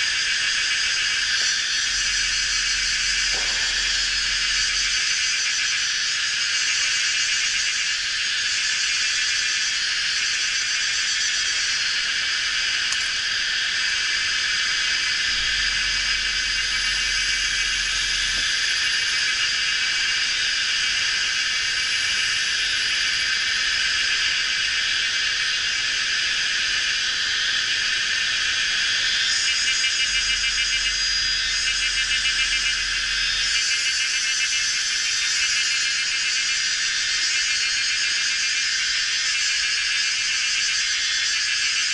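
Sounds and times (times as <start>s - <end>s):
insect pulsing trill: 0.0s - 41.9s
insects buzzing: 0.0s - 41.9s.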